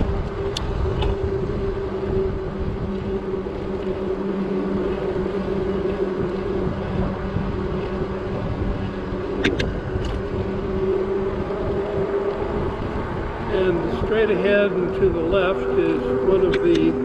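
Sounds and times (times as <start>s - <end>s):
bike road noise: 0.0s - 17.0s
low hum: 0.0s - 17.0s.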